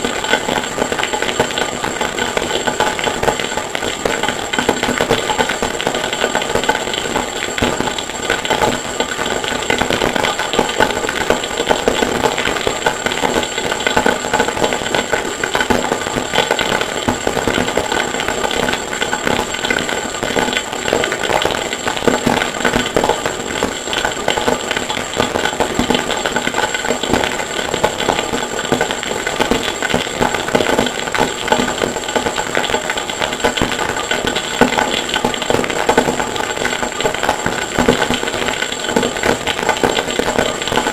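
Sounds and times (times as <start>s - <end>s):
rapid rattling clattering noise: 0.0s - 40.9s.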